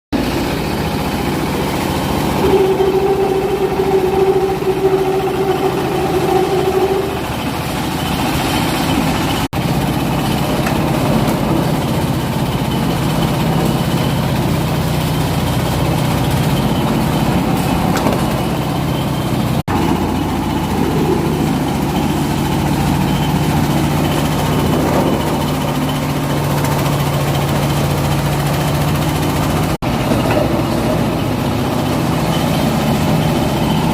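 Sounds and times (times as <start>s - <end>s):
high machine whine: 0.2s - 33.9s
machine running with low hum: 0.2s - 33.9s.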